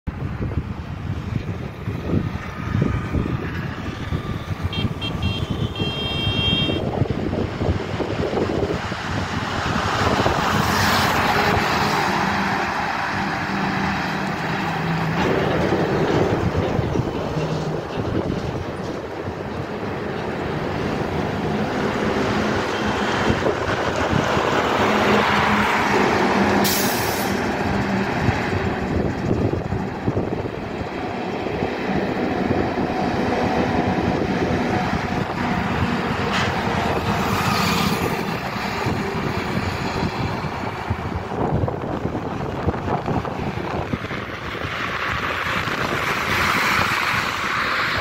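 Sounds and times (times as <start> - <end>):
road traffic: 0.0 - 48.0
truck diesel engine: 0.1 - 48.0.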